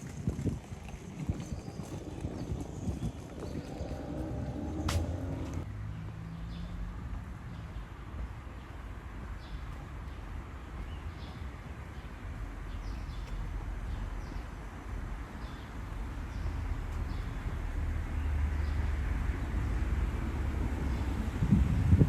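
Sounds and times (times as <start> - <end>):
low street rumble: 0.0 - 22.0.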